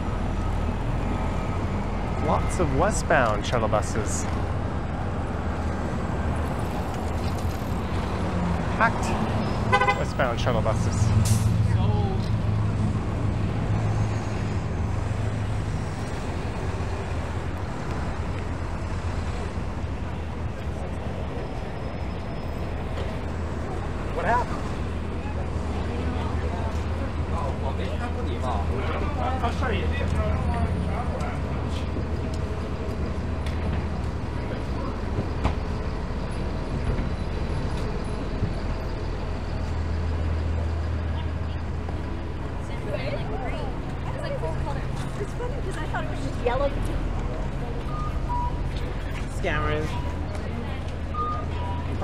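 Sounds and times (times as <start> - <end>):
bus engine humming: 0.0 - 52.0
city street traffic: 0.0 - 52.0
road noise: 0.0 - 52.0.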